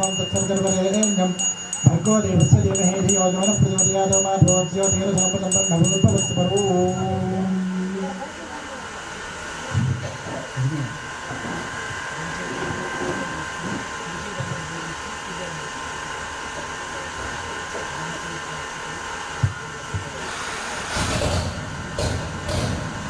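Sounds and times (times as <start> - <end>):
faint low murmuring: 0.0 - 21.0
mechanical whirring hum: 0.0 - 23.0.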